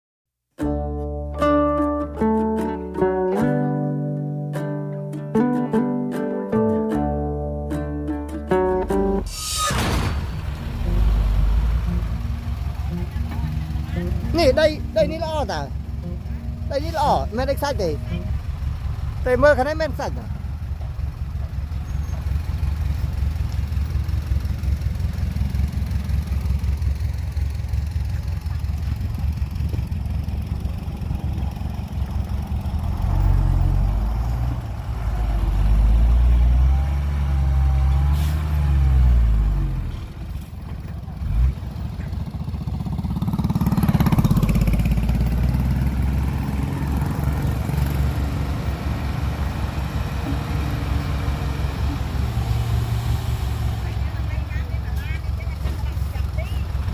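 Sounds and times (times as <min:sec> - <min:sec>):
diesel engine idling and revving: 0:08.5 - 0:56.9.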